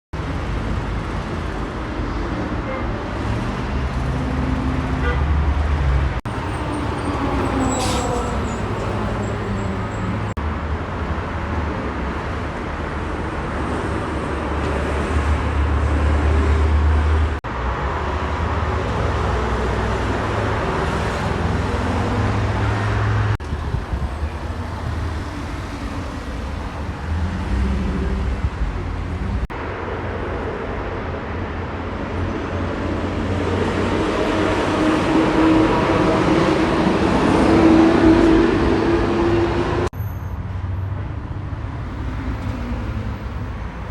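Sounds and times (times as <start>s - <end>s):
heavy traffic rumble and tyre noise: 0.1s - 43.9s.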